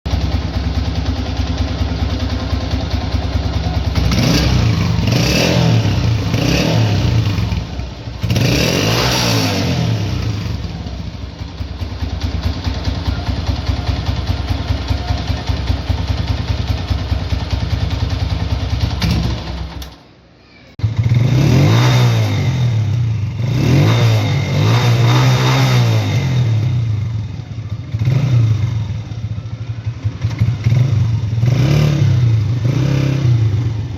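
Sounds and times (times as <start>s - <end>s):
motorcycle engine revving: 0.1s - 20.0s, 20.8s - 33.9s.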